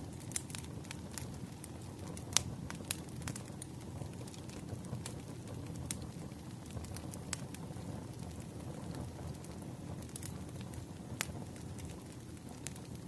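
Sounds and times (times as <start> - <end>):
wood fire crackling: 0.0 - 13.0
sharp pops of burning logs: 0.1 - 13.0.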